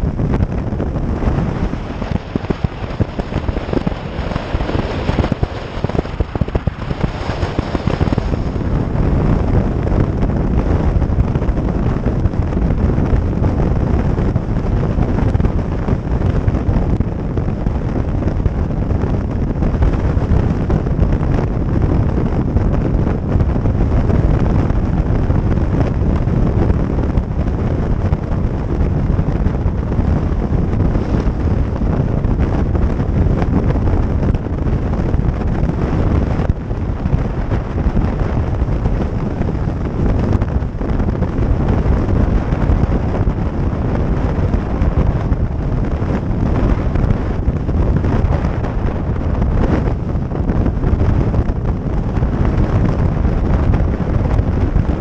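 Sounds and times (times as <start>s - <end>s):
road and engine noise: 0.0s - 55.0s
wind blasting microphone: 0.0s - 55.0s.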